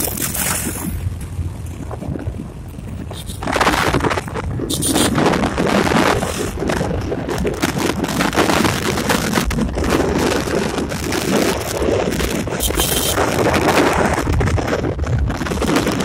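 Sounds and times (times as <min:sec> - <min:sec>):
vehicle road noise: 0:00.0 - 0:16.0
wind buffeting microphone: 0:00.0 - 0:16.0.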